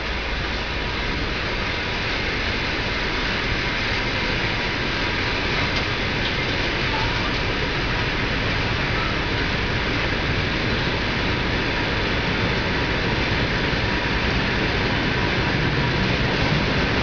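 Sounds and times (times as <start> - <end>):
train running on tracks: 0.0 - 17.0.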